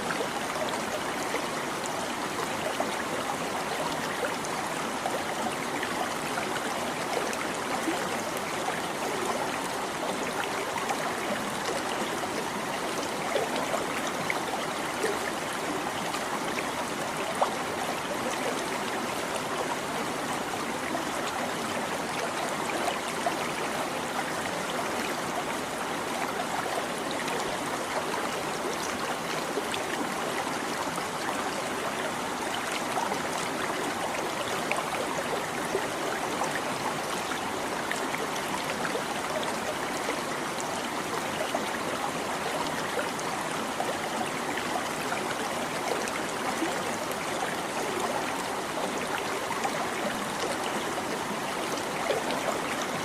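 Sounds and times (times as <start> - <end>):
stream babbling over stones: 0.0 - 53.0.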